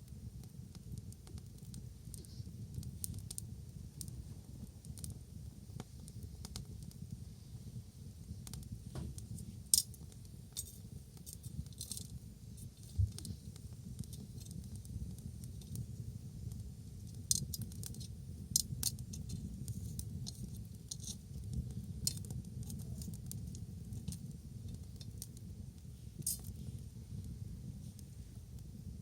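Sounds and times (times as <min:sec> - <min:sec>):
bonfire crackling and popping: 0:00.0 - 0:29.0
low fire rumble: 0:00.0 - 0:29.0.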